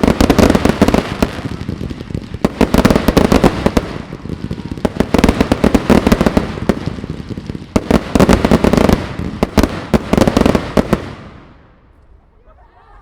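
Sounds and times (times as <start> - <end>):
fireworks bangs and crackles: 0.0 - 12.1.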